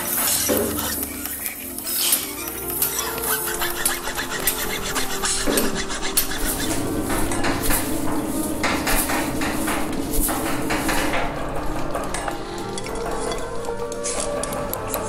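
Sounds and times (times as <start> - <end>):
bright scraping swishes: 0.0 - 14.2.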